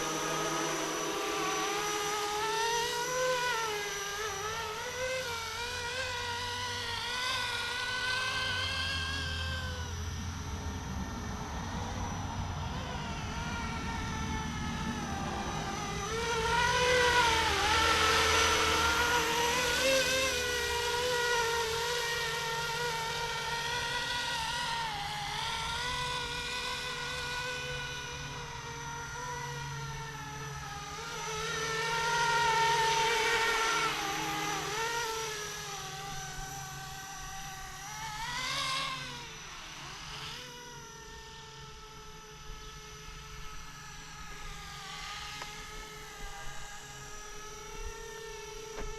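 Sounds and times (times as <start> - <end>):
rc helicopter motor and rotor whine: 0.0 - 48.9.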